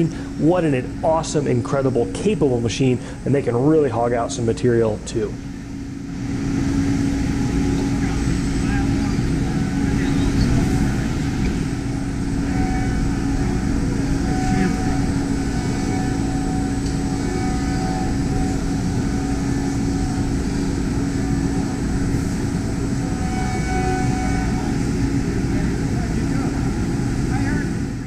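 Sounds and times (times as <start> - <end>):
machine humming drone: 0.0 - 28.0.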